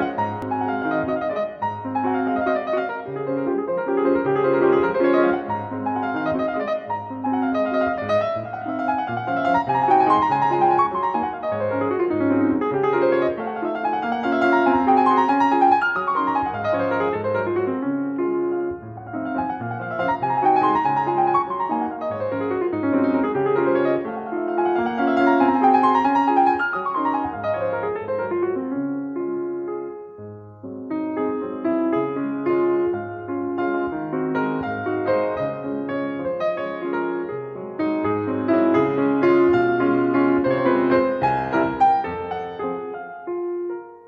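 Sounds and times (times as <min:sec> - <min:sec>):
solo piano music: 0:00.0 - 0:44.0.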